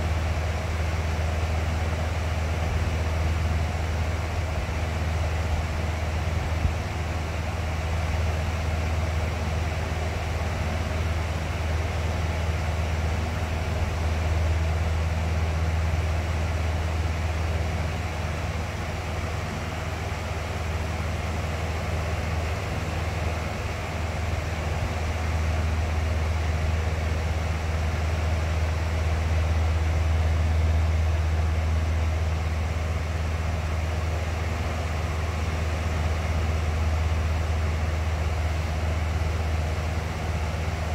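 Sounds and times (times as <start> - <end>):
fan motor hum: 0.0 - 40.9.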